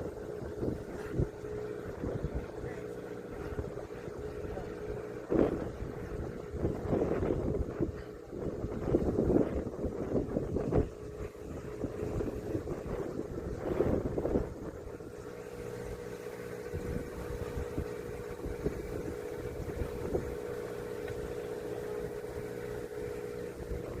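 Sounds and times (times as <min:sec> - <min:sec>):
motorboat engine droning: 0:00.0 - 0:24.0
wind noise on microphone: 0:00.0 - 0:24.0.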